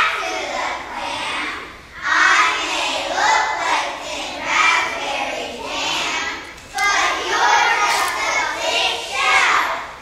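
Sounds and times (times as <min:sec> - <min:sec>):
children singing in unison: 0:00.0 - 0:09.8.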